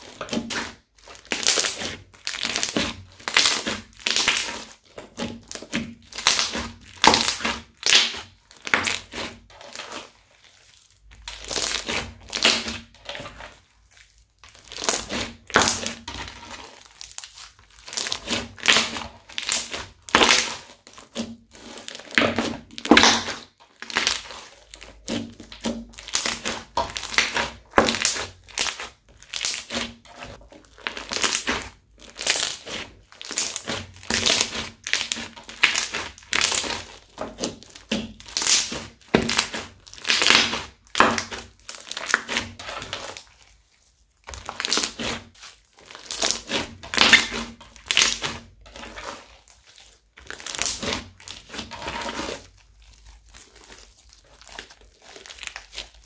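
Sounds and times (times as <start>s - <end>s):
crunchy slime being squeezed: 0.0s - 56.0s.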